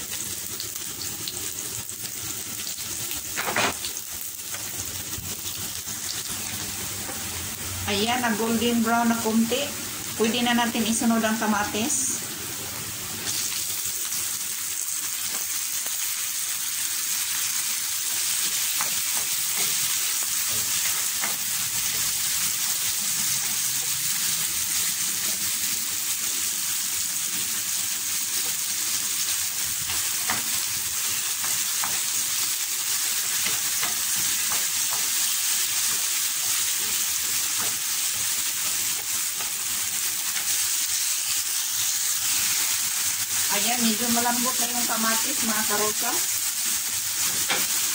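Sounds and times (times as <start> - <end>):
vegetables sizzling in hot oil: 0.0 - 47.9.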